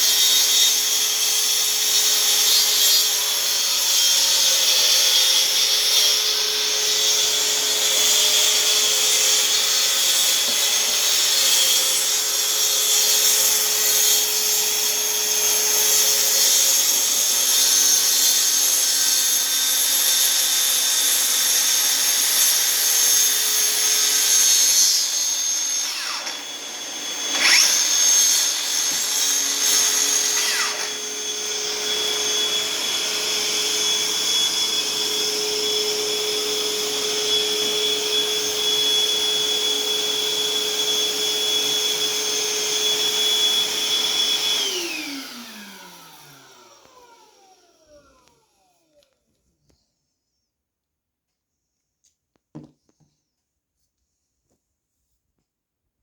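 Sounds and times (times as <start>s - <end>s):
saw and vacuum motor whine: 0.0s - 49.2s.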